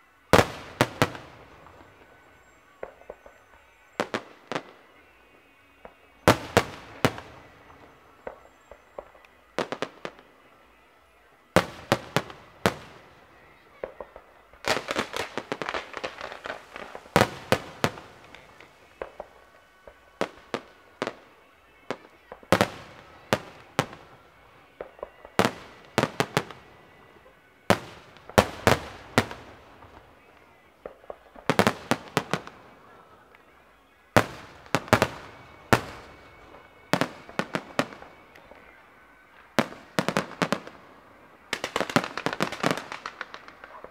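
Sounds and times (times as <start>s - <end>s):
fireworks crackling: 0.0s - 43.9s
fireworks bangs: 0.3s - 10.8s, 11.5s - 43.9s.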